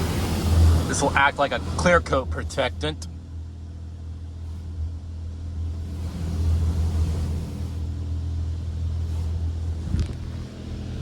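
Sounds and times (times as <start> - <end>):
car wash low rumble: 0.0 - 11.0.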